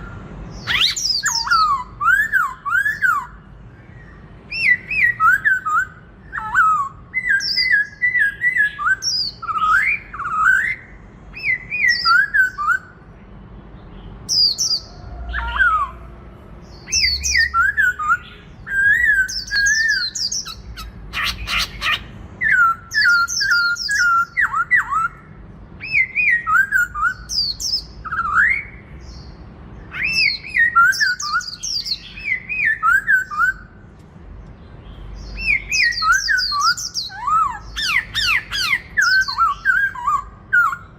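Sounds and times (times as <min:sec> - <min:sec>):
bird singing whistled phrases: 0:00.0 - 0:13.0, 0:16.7 - 0:29.3, 0:29.9 - 0:33.8, 0:35.2 - 0:40.9.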